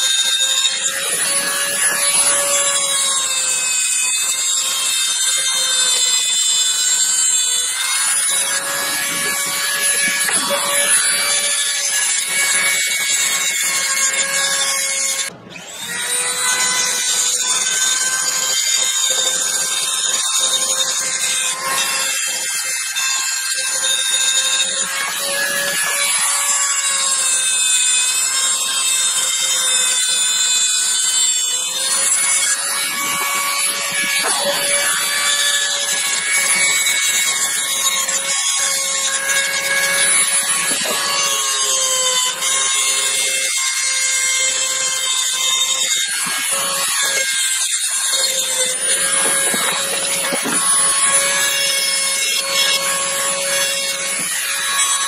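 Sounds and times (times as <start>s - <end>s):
rotary tool grinding steel: 0.0s - 55.0s.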